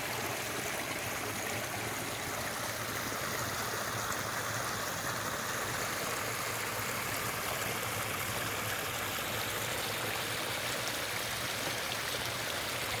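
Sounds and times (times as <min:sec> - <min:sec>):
stream babbling: 0:00.0 - 0:13.0.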